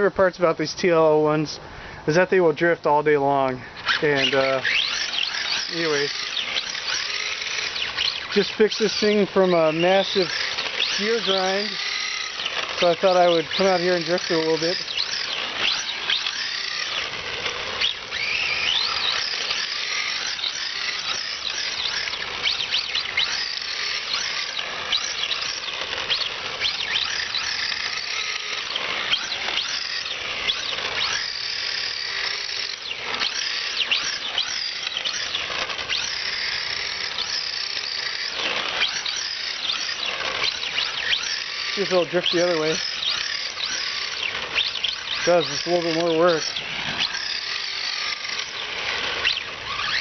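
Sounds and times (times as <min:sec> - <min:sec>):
electric motor and gears whining: 0:00.0 - 0:50.0.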